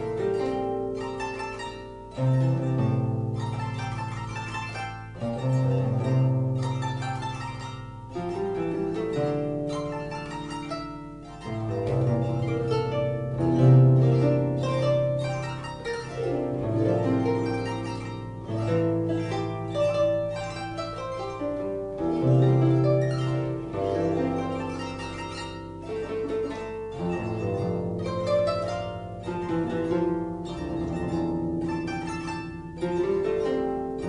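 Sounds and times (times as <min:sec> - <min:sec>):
harp playing slow piece: 0:00.0 - 0:34.0.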